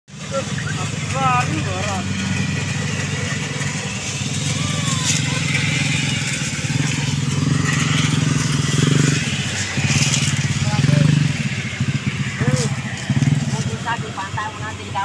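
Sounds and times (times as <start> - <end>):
motorcycle engine idling: 0.1 - 15.0.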